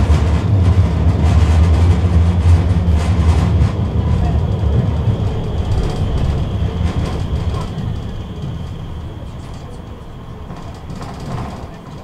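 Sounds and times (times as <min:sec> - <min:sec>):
steady high whine: 0:00.0 - 0:12.0
tram rumbling on rails: 0:00.0 - 0:12.0.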